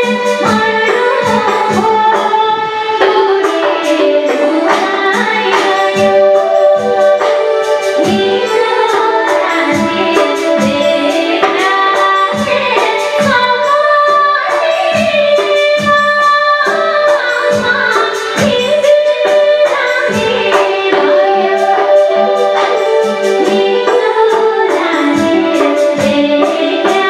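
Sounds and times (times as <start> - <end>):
instrumental accompaniment: 0.0 - 27.0
woman singing: 0.0 - 27.0.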